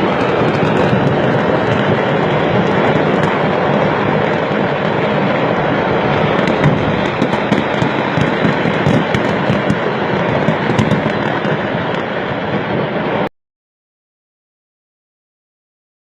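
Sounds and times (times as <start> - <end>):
sharp firework cracks: 0.0 - 13.2
fireworks crackling pops: 0.0 - 13.3.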